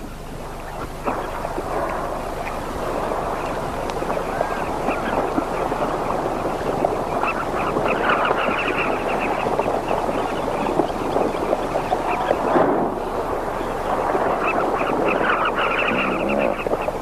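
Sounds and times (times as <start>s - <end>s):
bee-eaters chirping: 0.4s - 17.0s.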